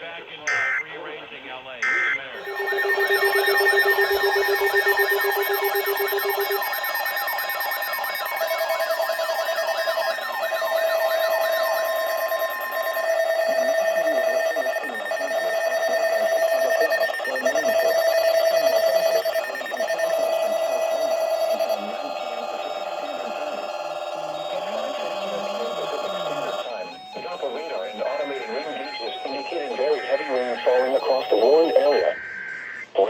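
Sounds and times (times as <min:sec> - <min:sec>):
steady electronic alert tones: 0:00.5 - 0:01.0, 0:01.8 - 0:32.8
warbling siren-like sweeps: 0:02.4 - 0:32.7.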